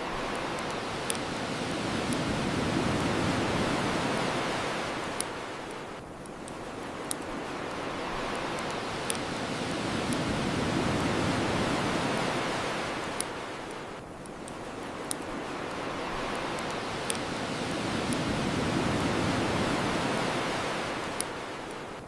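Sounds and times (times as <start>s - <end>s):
ocean waves washing on shore: 0.0s - 22.0s
wood fire crackling: 0.0s - 22.0s.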